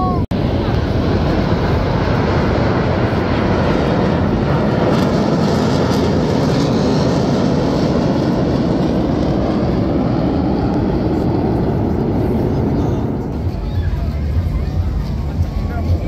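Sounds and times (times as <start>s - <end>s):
jets flying over: 0.0s - 16.0s.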